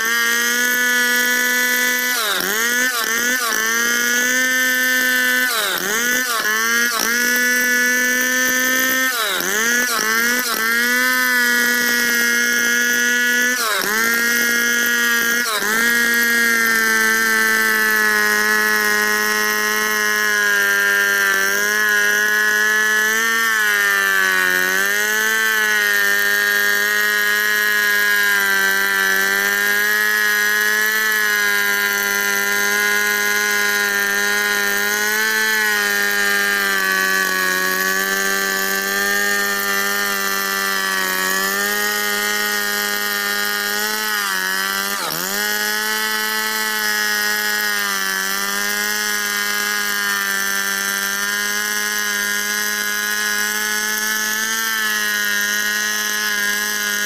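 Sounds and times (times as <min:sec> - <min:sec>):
chainsaw cutting through log: 0:00.0 - 0:57.0.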